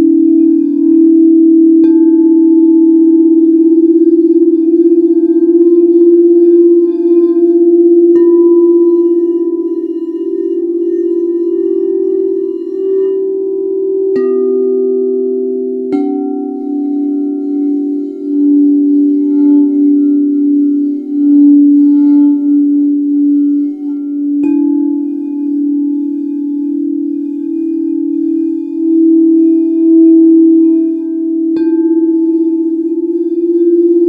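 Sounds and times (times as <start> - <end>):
singing bowl strikes: 0.0 - 34.0
singing bowls ringing: 0.0 - 34.0.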